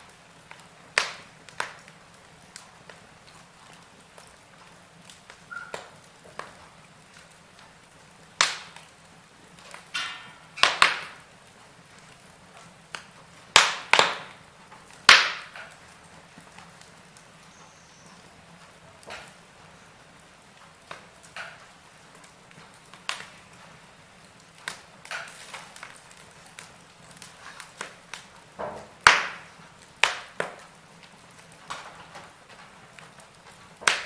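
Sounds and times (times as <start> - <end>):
faint steady hiss: 0.0 - 34.0
wood fire crackling: 0.0 - 34.0.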